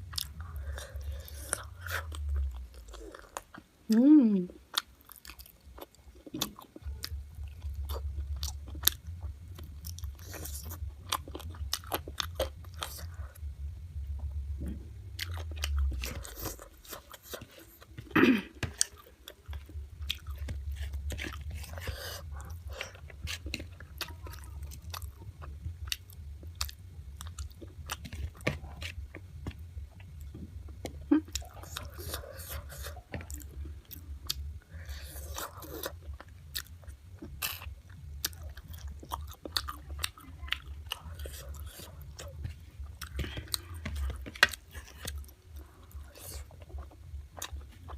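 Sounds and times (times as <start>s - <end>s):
chewing and crunching bites: 4.7s - 13.4s, 14.7s - 47.9s.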